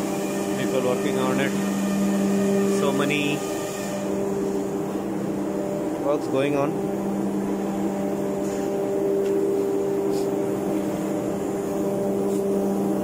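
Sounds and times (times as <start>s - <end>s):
engine-room machinery hum: 0.0s - 13.0s.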